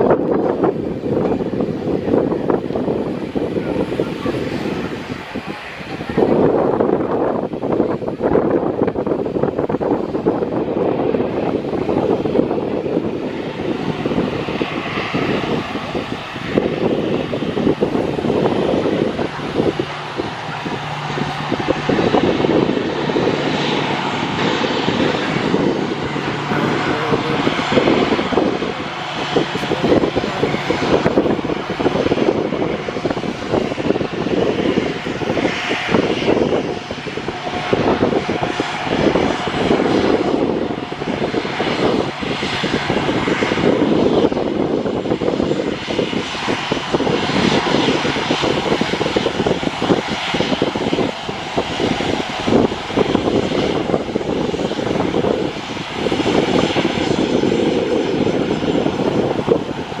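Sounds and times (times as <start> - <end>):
airliner engine rumble: 0.0 - 60.0.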